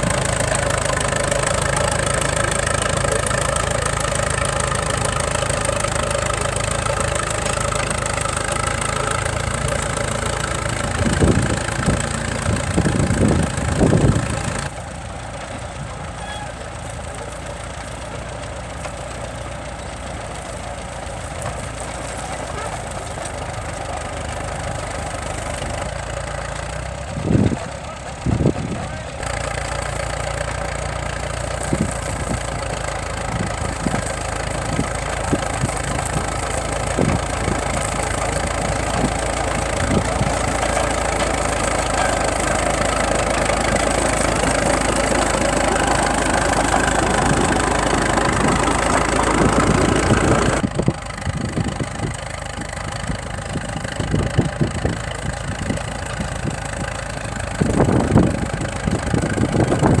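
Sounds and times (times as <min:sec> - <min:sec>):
tractor engine idling with knock: 0:00.0 - 1:00.0.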